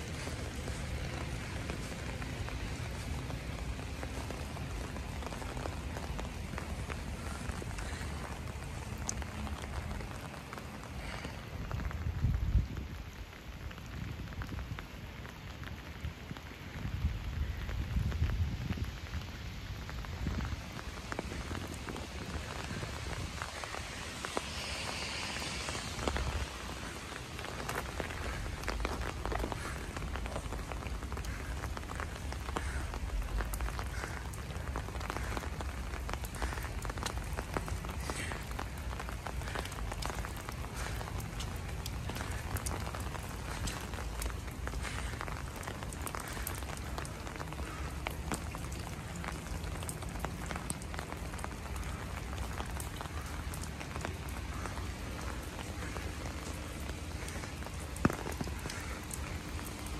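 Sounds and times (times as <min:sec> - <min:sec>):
low rain rumble: 0:00.0 - 0:59.9
rain drops ticking: 0:00.0 - 0:59.9.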